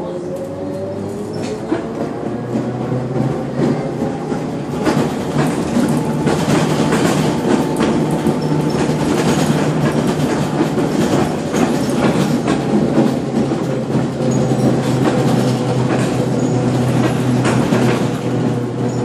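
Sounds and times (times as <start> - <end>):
trolleybus running noise: 0.0 - 19.0
rattles and knocks of bus body: 1.3 - 19.0.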